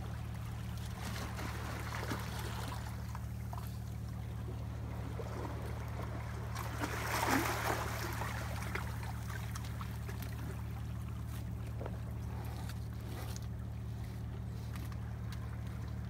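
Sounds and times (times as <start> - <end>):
boat engine idling: 0.0 - 16.0
water lapping among rocks: 0.0 - 16.0.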